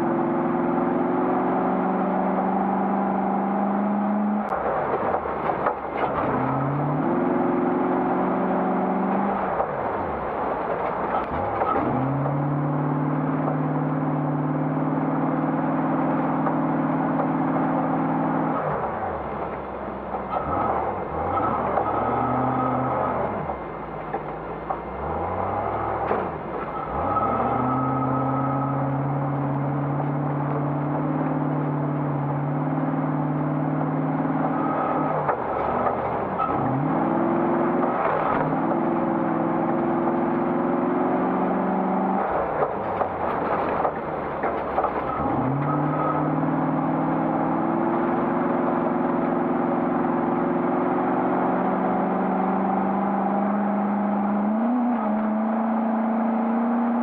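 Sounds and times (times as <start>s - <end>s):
car engine revving: 0.0s - 57.0s
road and body noise: 0.0s - 57.0s.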